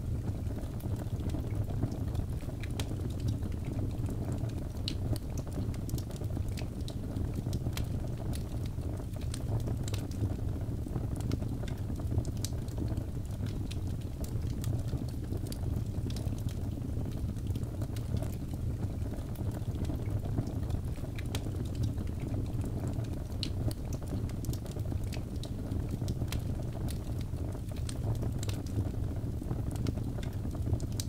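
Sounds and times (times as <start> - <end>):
low rumble of flames: 0.0 - 31.0
logs crackling and popping: 0.2 - 31.0.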